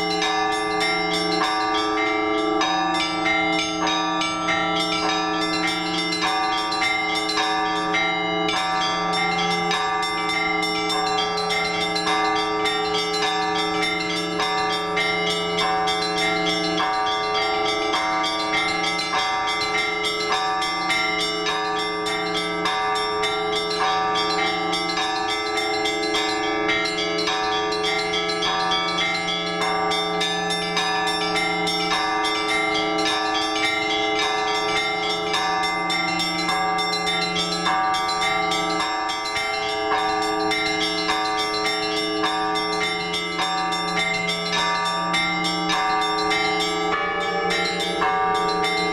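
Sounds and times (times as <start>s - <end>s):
large bells tolling: 0.0s - 48.9s
small bells rung quickly: 0.0s - 48.9s.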